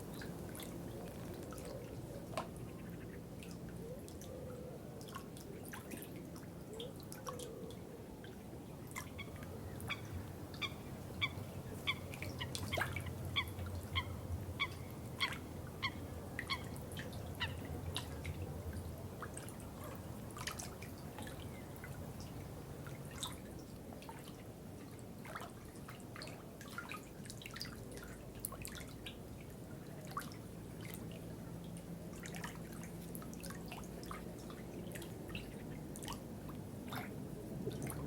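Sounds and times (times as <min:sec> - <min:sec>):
water trickling and dripping: 0:00.0 - 0:04.4, 0:05.0 - 0:38.0.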